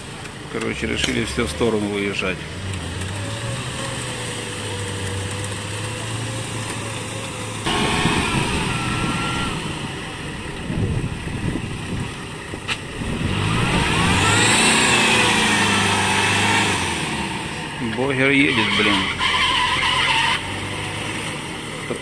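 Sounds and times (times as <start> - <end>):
engine revving in mud: 0.0 - 22.0
off-road vehicle engine running: 0.0 - 22.0.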